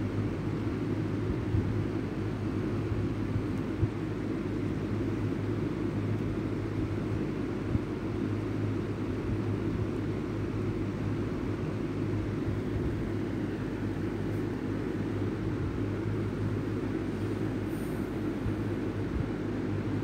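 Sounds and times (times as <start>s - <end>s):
low rumbling hum: 0.0s - 20.0s.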